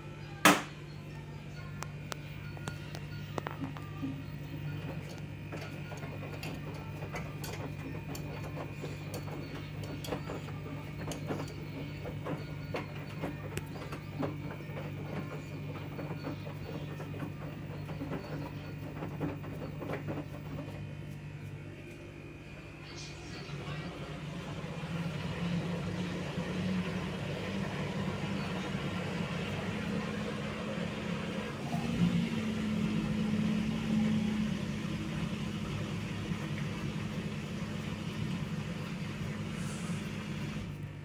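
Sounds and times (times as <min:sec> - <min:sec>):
washing machine humming: 0:00.0 - 0:41.0.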